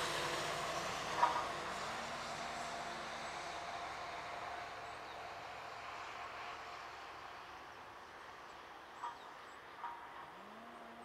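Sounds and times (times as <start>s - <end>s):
jet engines rushing with faint whine: 0.0s - 11.0s.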